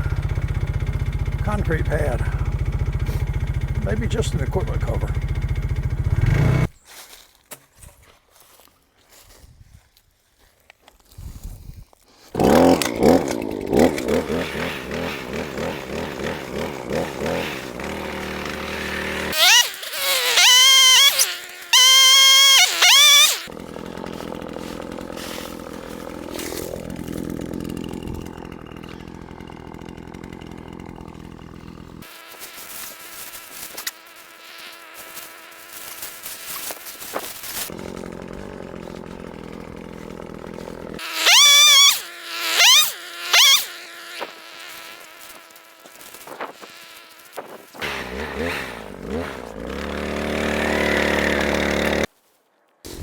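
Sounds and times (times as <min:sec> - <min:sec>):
chainsaw idling and revving: 0:00.0 - 0:06.8, 0:12.3 - 0:52.1.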